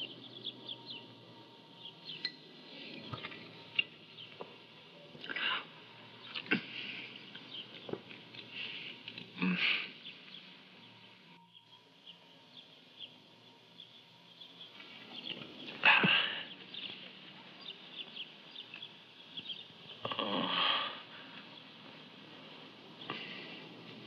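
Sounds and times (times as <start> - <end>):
birds chirping faintly: 0.0 - 24.0
low hiss: 0.0 - 24.0.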